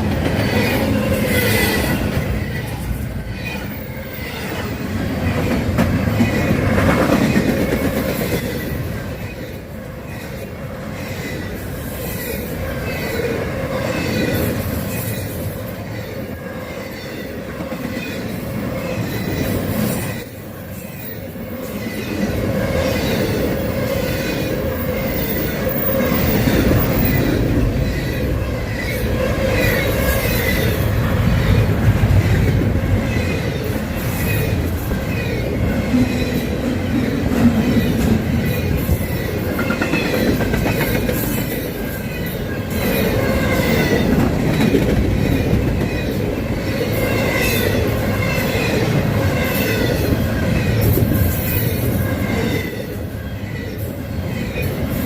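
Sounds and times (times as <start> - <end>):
train wheels clicking on rail joints: 0.0 - 55.0.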